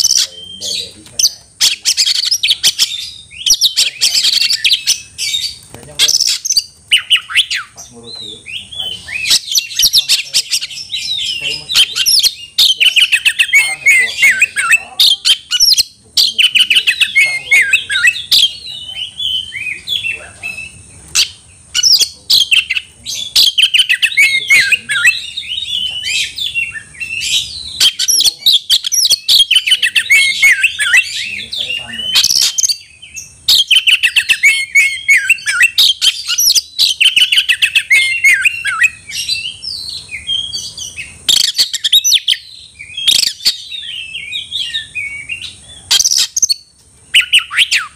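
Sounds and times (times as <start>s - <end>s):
bird singing loudly: 0.0s - 47.9s.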